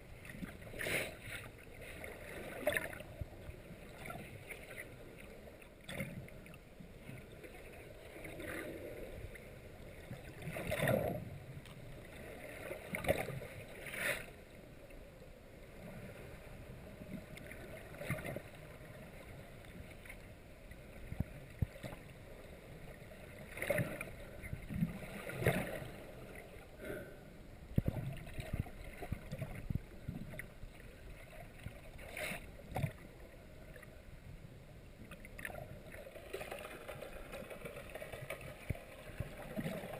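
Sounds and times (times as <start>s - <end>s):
water swishing around camera: 0.0s - 39.9s.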